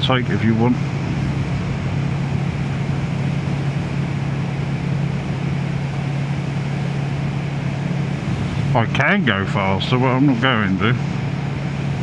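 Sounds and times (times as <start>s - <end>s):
steady rush of noise: 0.0s - 12.0s.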